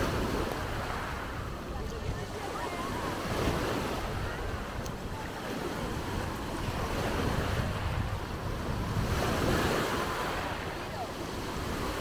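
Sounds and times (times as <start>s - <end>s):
sea surf washing onto beach: 0.0s - 12.0s
wind buffeting microphone: 0.0s - 12.0s.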